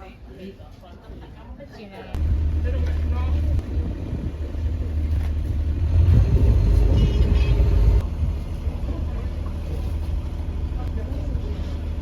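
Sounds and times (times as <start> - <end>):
road vehicle rumble: 2.2 - 12.0.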